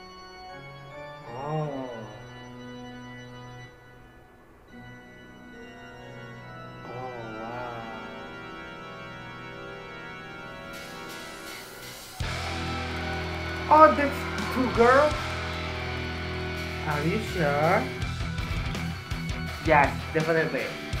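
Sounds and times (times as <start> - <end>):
wavering high organ note: 0.0 - 19.5
organ chords: 0.0 - 21.0.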